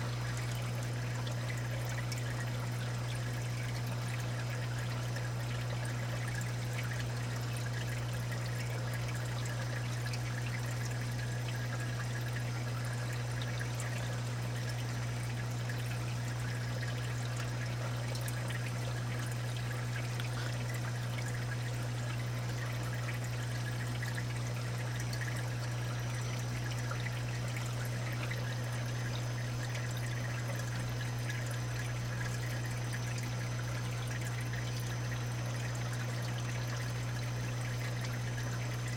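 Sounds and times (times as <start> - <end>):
constant low hum: 0.0 - 38.9
water trickling and pouring: 0.0 - 38.9.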